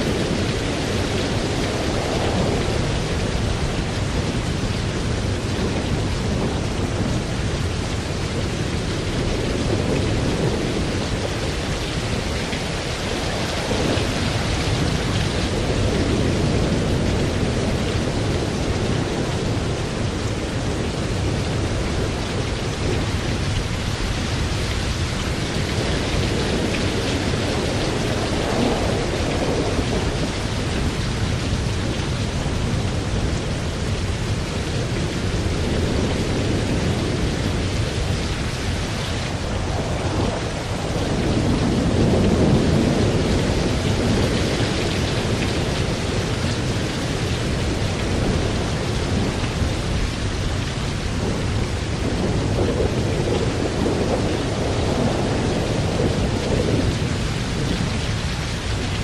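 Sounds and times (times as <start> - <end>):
low rolling thunder: 0.0 - 59.0
steady rain falling: 0.0 - 59.0.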